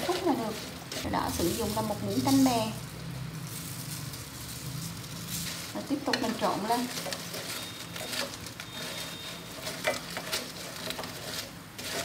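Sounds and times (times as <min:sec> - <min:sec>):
chopsticks clicking and scraping pan: 0:00.0 - 0:02.8, 0:03.4 - 0:12.0
soft steady sizzle: 0:00.0 - 0:12.0.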